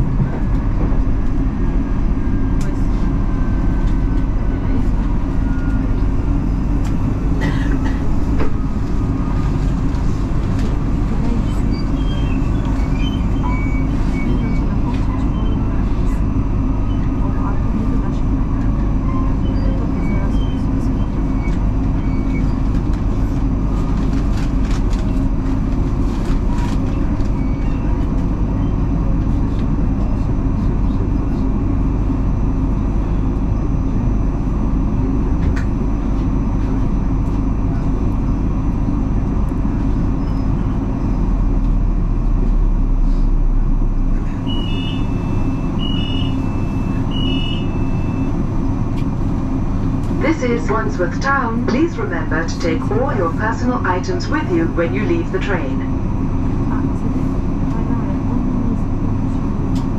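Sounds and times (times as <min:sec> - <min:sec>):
train wheels rumbling on track: 0:00.0 - 0:55.8
deep hum: 0:00.0 - 0:59.9.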